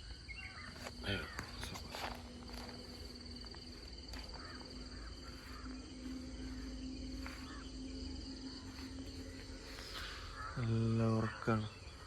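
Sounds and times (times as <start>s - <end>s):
faint chirps: 0.0s - 12.0s
insects trilling: 0.0s - 12.0s
low hum: 0.0s - 12.0s.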